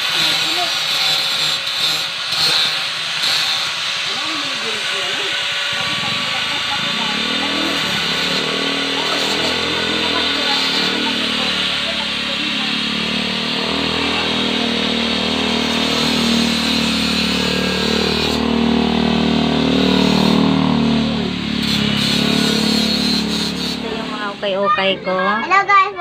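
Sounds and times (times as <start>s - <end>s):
angle grinder cutting steel: 0.0s - 24.6s.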